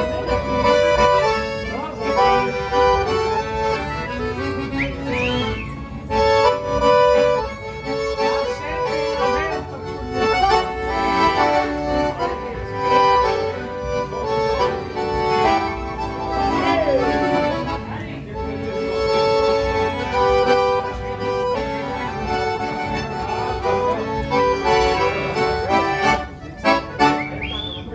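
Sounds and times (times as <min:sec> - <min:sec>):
accordions playing: 0:00.0 - 0:27.9.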